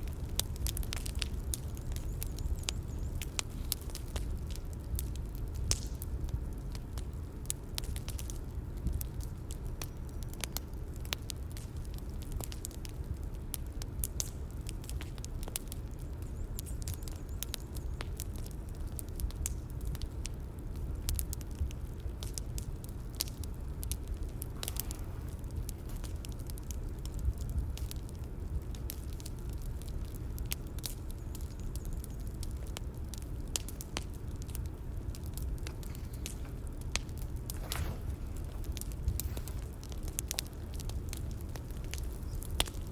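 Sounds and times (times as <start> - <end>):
bonfire crackling: 0.0 - 42.9
low rumble of burning wood: 0.0 - 42.9.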